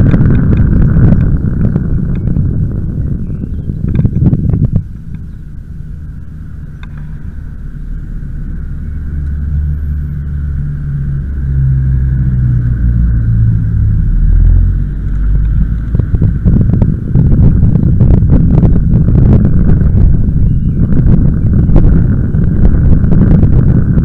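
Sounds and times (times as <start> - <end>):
wind rumble: 0.0 - 24.0.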